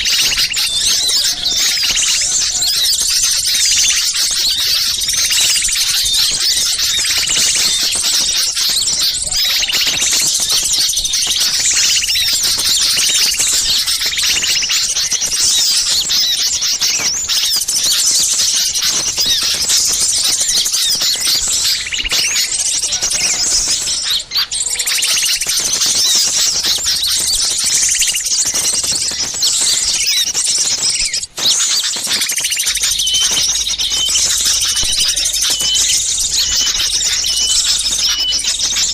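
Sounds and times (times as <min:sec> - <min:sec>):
songbirds chattering and chirping: 0:00.0 - 0:38.9.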